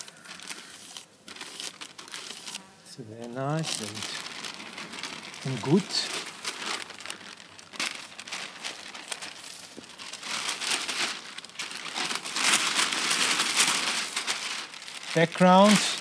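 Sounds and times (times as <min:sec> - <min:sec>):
thin sheet crinkling: 0:00.0 - 0:16.0.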